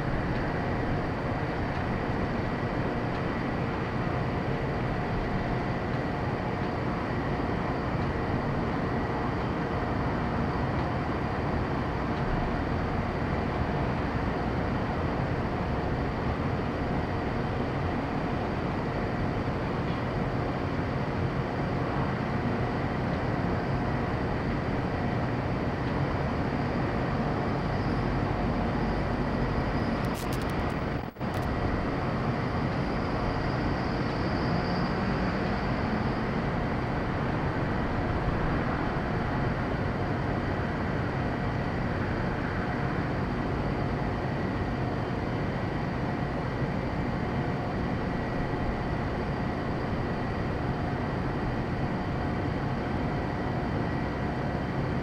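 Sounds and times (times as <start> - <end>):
high engine whine: 0.0 - 55.0.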